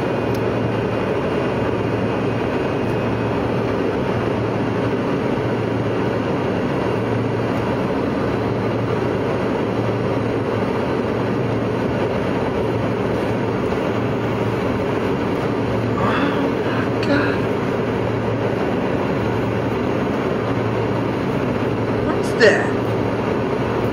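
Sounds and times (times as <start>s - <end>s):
airflow and jet engines rushing: 0.0s - 23.9s
low hum: 0.0s - 23.9s.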